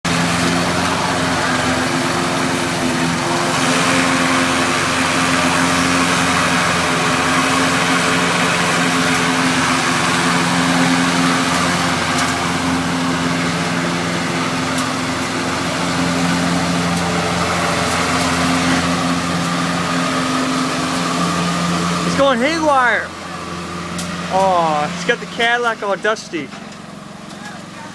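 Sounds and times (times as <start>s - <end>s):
lawn mower engine running: 0.0s - 27.9s.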